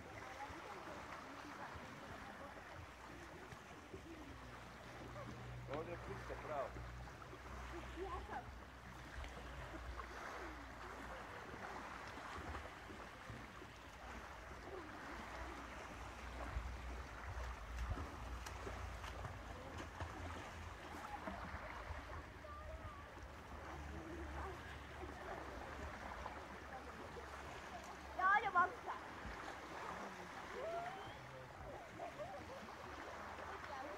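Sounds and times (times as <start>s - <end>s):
faint distant voices: 0.0s - 33.9s
sea wash: 0.0s - 33.9s.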